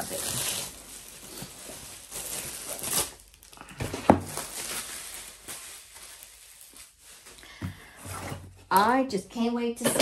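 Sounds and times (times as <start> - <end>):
packaging rustling and crinkling: 0.0 - 8.6.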